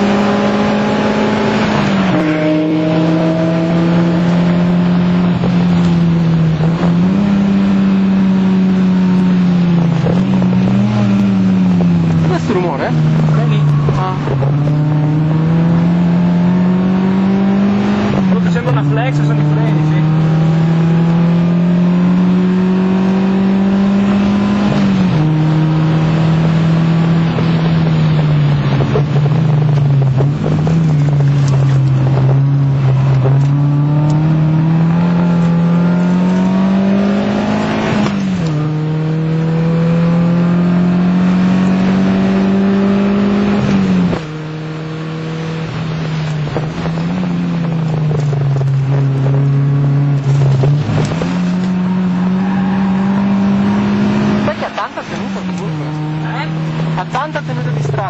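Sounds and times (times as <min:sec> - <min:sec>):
car engine pulling hard: 0:00.0 - 0:58.0.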